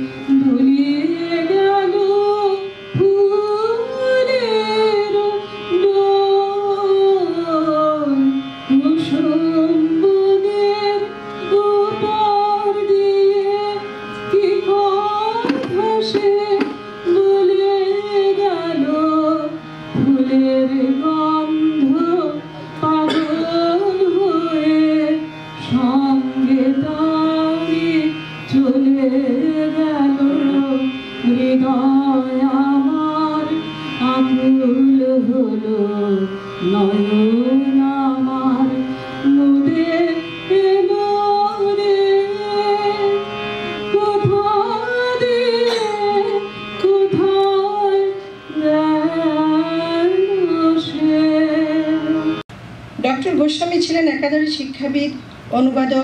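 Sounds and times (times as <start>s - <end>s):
woman singing: 0.0s - 52.4s
harmonium: 0.0s - 56.0s.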